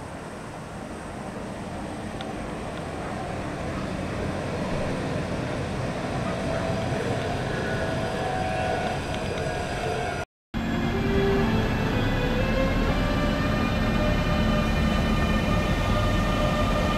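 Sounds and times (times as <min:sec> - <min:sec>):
train rumble: 0:00.0 - 0:16.9.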